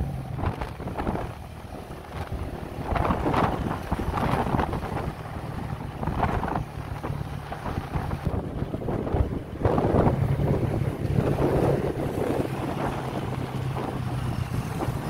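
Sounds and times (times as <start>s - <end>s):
motorbike engine droning: 0.0s - 15.0s
wind buffeting microphone: 0.0s - 15.0s.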